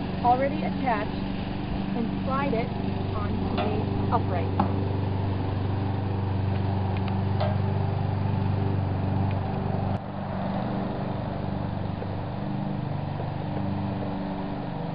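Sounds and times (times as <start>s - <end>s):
engine humming: 0.0s - 14.9s.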